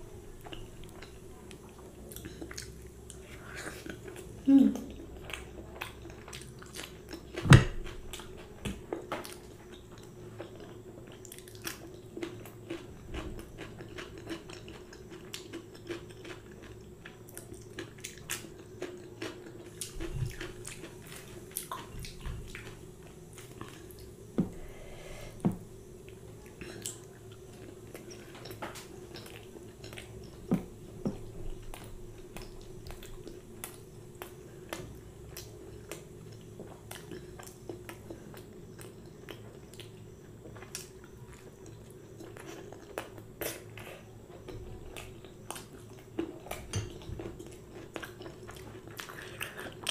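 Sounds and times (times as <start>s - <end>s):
faint steady hum: 0.0s - 49.9s
chewing and biting food: 5.2s - 23.9s, 26.1s - 49.9s.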